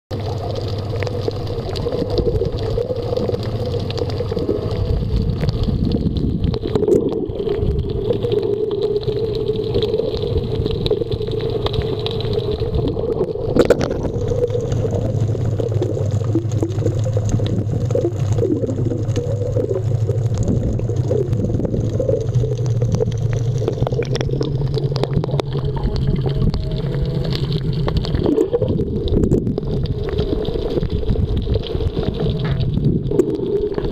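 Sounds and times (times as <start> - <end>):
muffled water gurgling: 0.1 - 33.9.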